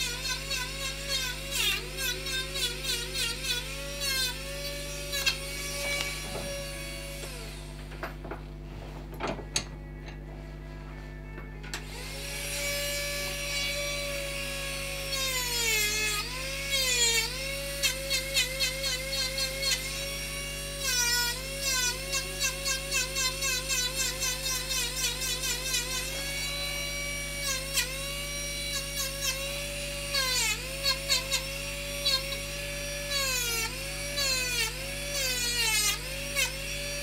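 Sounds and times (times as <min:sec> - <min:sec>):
bit grinding wood: 0:00.0 - 0:07.8, 0:11.8 - 0:37.0
rotary carving tool whining: 0:00.0 - 0:08.4, 0:11.2 - 0:37.0.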